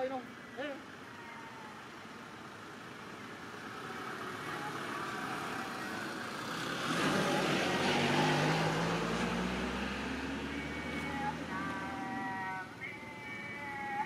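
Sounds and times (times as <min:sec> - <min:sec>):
vehicle engine approaching: 0:00.0 - 0:14.0.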